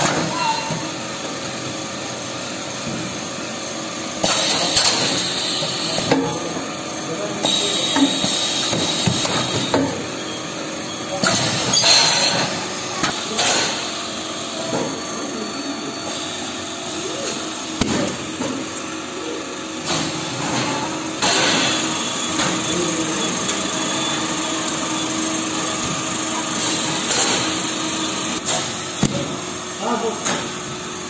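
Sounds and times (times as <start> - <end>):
machinery noise: 3.3 - 28.8.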